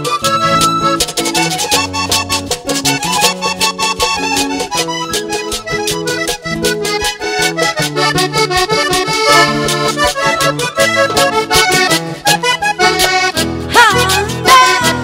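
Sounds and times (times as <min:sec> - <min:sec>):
accordion melody: 0:00.0 - 0:15.0
bass line: 0:00.0 - 0:15.0
steady percussion: 0:00.0 - 0:15.0.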